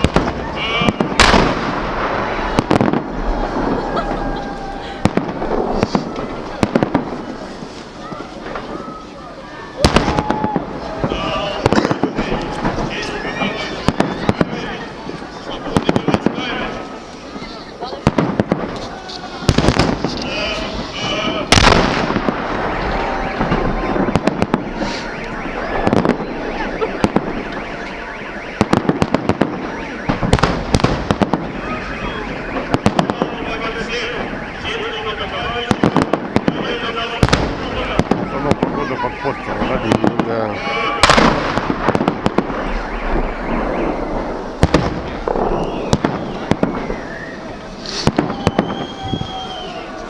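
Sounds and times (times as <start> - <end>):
fireworks bangs and crackling: 0.0 - 50.0
steady background din: 0.0 - 50.0.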